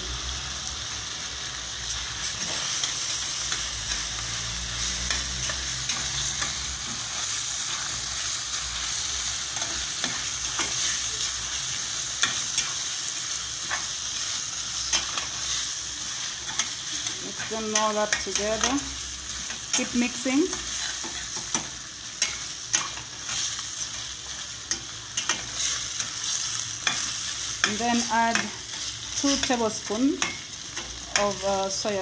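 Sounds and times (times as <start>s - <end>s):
chicken sizzling in hot oil: 0.0s - 32.0s.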